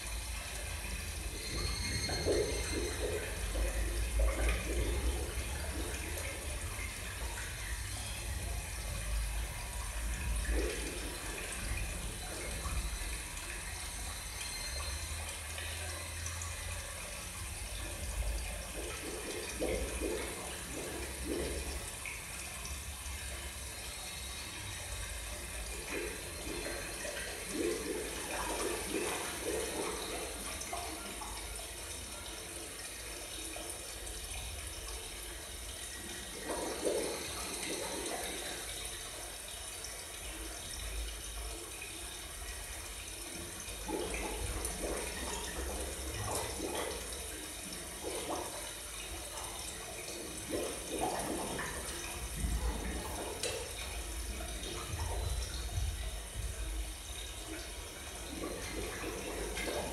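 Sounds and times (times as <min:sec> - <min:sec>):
running water gurgling: 0:00.0 - 0:59.9.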